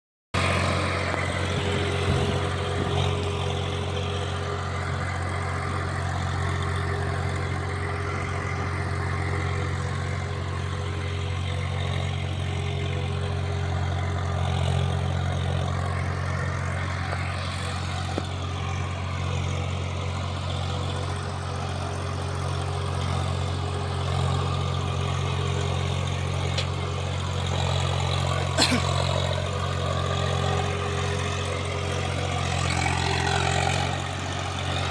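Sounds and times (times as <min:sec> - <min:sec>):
tractor diesel engine droning: 0:00.4 - 0:34.9.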